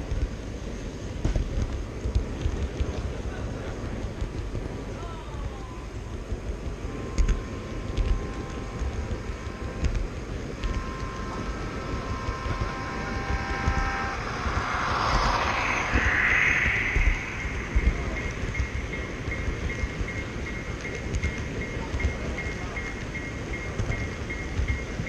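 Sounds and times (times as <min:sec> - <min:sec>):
model train passing rush: 0:00.0 - 0:25.0
model train wheels rumbling on track: 0:00.0 - 0:25.0.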